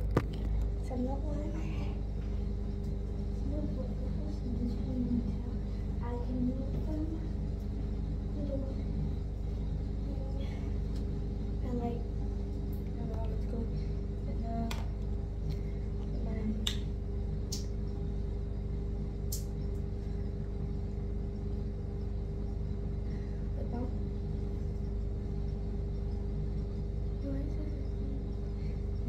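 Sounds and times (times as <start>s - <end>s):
exhaust fan drone: 0.0s - 29.0s.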